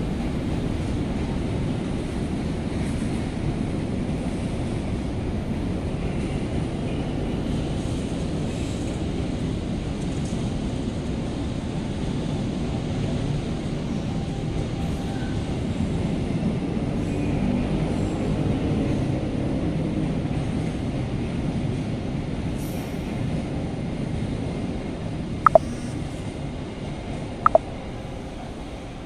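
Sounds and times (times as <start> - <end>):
rumble of trains: 0.0 - 29.0.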